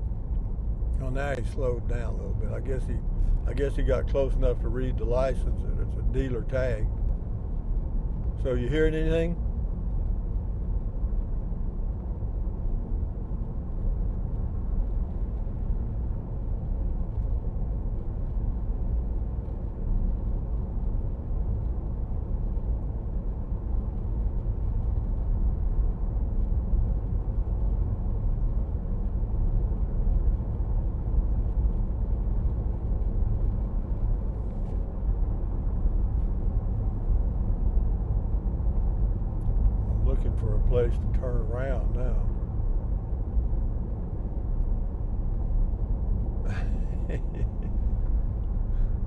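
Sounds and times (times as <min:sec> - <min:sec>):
road and tyre rumble in car: 0:00.0 - 0:49.0.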